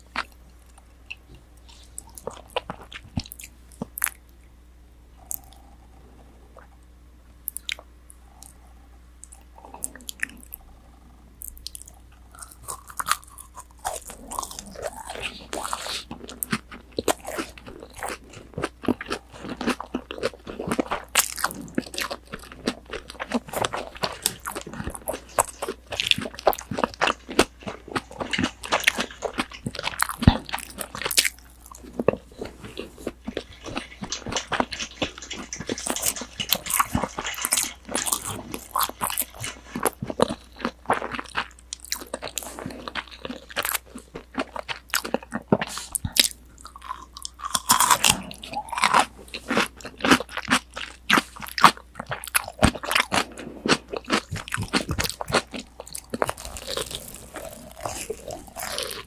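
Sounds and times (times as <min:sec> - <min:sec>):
crunchy chewing: 0:05.2 - 0:06.7, 0:07.5 - 0:59.0.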